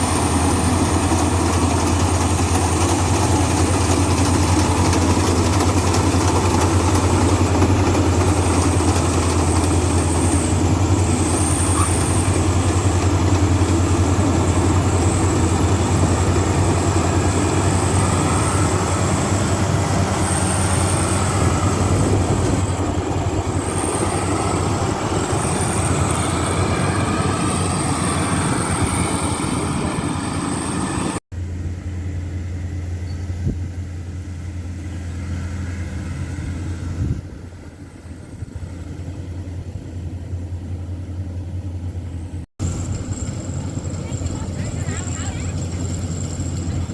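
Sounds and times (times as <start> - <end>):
heavy machine engine humming: 0.0 - 46.9.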